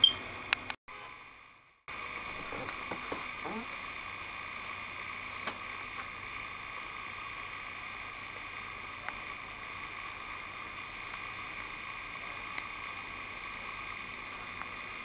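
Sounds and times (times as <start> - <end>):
steady hiss and hum: 0.0 - 15.0.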